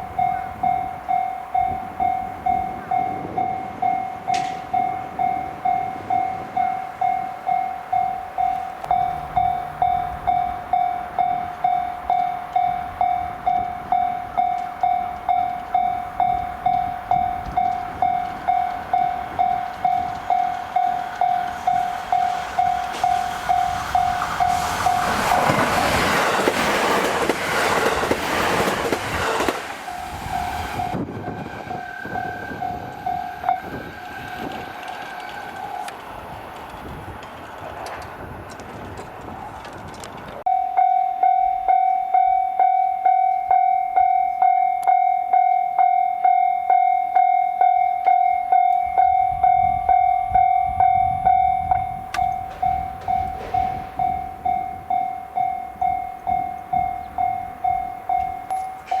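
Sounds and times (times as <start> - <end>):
level-crossing warning bell: 0.0 - 36.3, 40.4 - 59.0
train passing with rushing rumble: 0.0 - 59.0.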